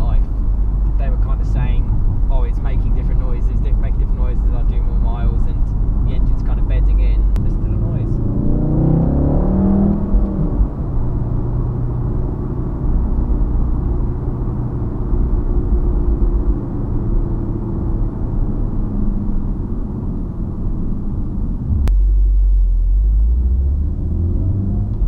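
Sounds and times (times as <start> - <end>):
car engine droning: 0.0 - 25.0
road rumble: 0.0 - 25.0.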